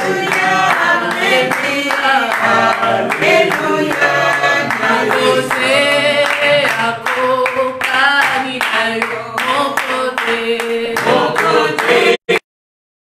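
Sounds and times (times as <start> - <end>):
hands clapping: 0.0 - 12.2
group singing worship song: 0.0 - 12.4.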